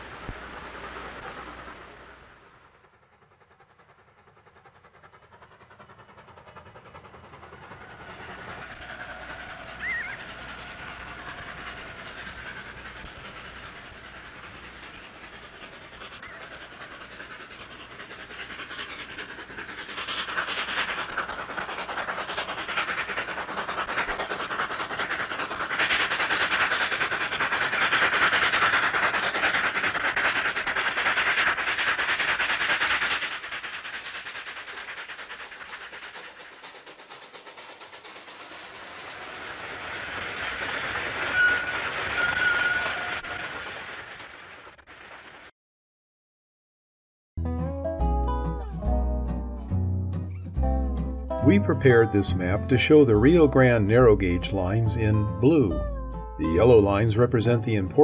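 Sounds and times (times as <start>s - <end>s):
steam locomotive passing: 0.0s - 45.5s, 47.9s - 58.0s.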